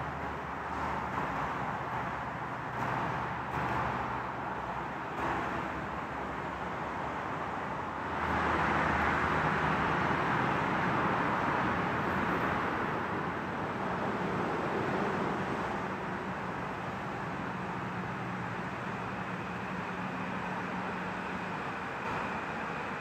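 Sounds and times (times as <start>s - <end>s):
train approaching and slowing: 0.0s - 23.0s.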